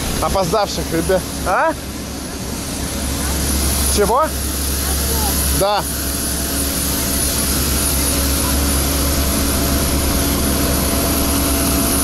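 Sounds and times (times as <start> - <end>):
constant high whine: 0.0 - 12.0
jet airliner roar: 0.0 - 12.0.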